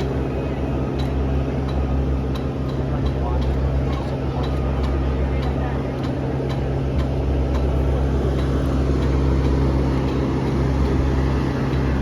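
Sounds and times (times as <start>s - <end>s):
jet engine droning: 0.0s - 12.0s.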